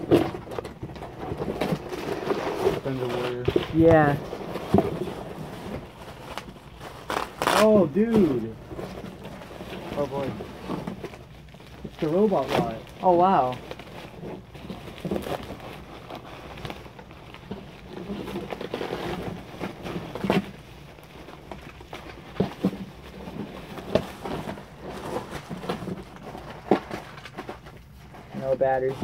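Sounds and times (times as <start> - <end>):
plastic and cardboard rustling: 0.0 - 29.0.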